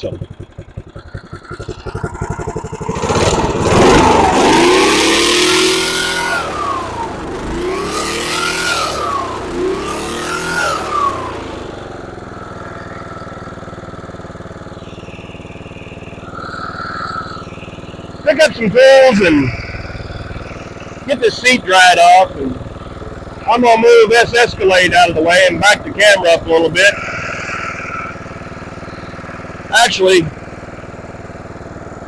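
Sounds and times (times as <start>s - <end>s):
mower engine revving and idling: 0.0s - 32.0s.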